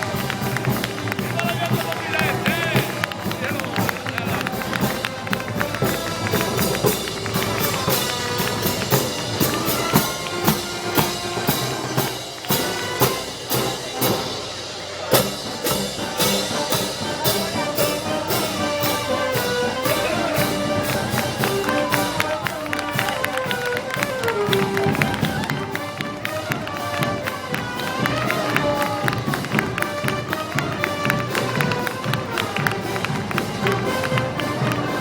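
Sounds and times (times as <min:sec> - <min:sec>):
band held melodic notes: 0:00.0 - 0:35.0
steady drum beat: 0:00.0 - 0:35.0.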